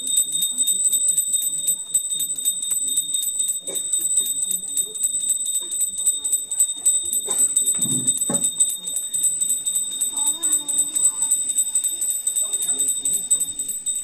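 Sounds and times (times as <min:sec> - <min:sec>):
hand bell ringing: 0:00.0 - 0:14.0.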